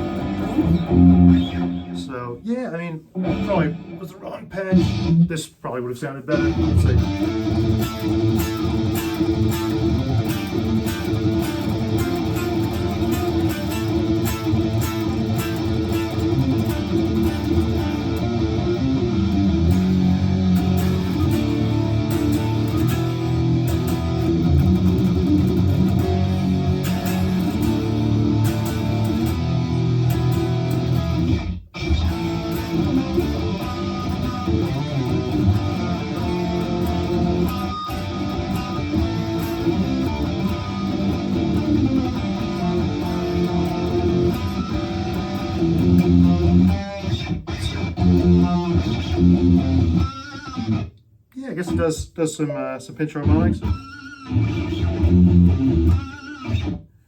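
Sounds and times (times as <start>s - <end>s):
distorted electric guitar: 0.0s - 5.6s, 6.3s - 57.0s.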